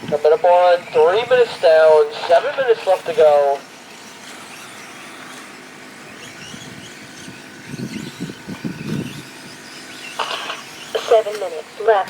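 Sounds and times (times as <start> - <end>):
rc trucks motors whining: 0.0 - 12.0.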